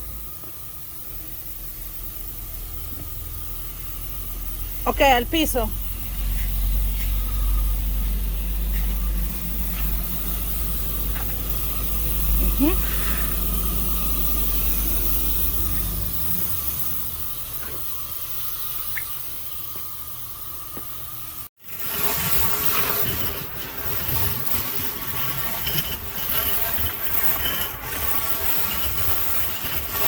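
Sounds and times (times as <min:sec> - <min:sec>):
pressure washer spraying water: 0:00.0 - 0:30.0.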